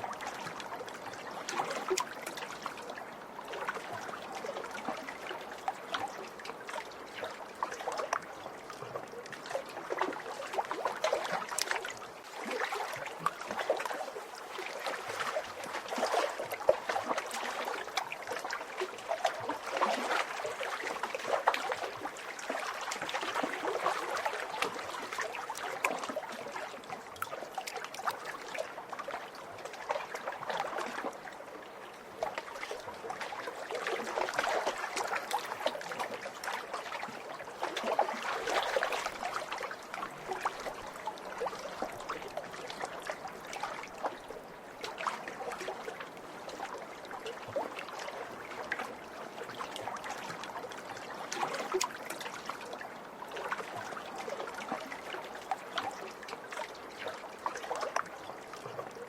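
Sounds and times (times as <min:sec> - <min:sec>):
lake waves lapping: 0:00.0 - 0:59.0.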